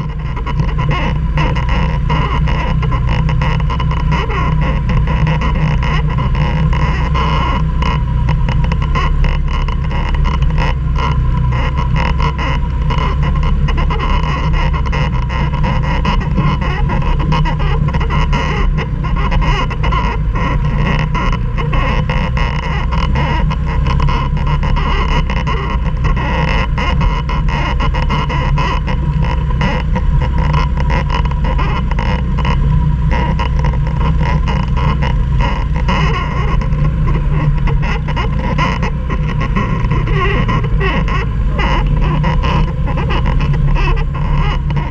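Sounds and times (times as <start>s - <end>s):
quad engine running under load: 0.0s - 44.9s.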